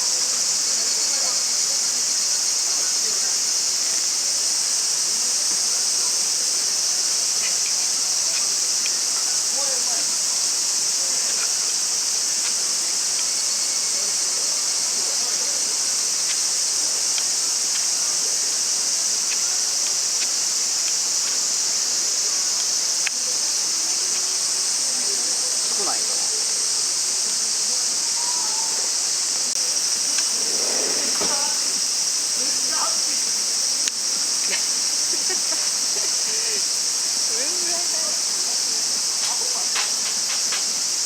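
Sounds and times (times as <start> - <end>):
insects chorus: 0.0 - 41.0
faint campfire crackles: 5.4 - 41.0.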